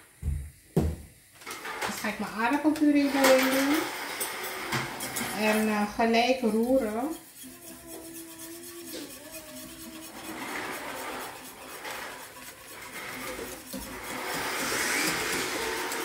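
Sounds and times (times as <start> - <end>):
utensil scraping in a pot: 1.6 - 16.0.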